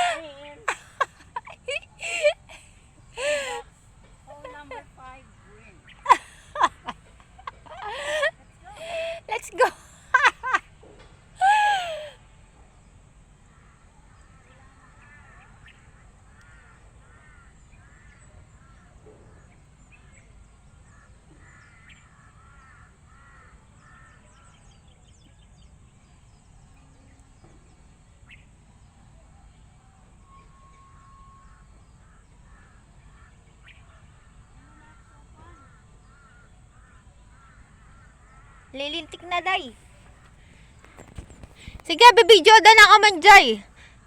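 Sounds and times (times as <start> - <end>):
faint birds calling: 0.0 - 44.0.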